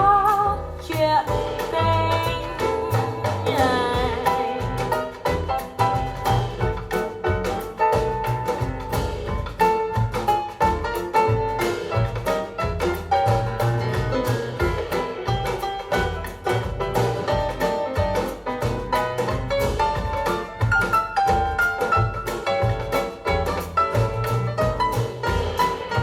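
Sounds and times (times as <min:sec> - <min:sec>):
bass line: 0:00.0 - 0:26.0
percussion beat: 0:00.0 - 0:26.0.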